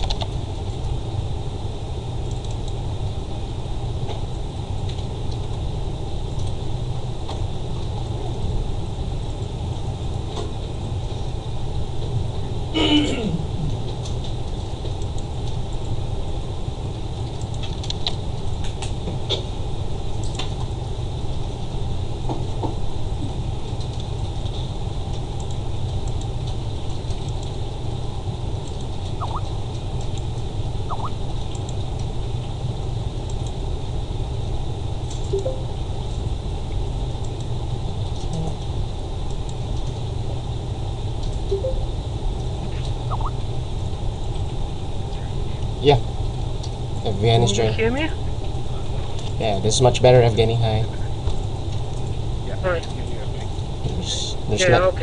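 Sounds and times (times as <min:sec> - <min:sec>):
low rumbling line noise: 0:00.0 - 0:55.0.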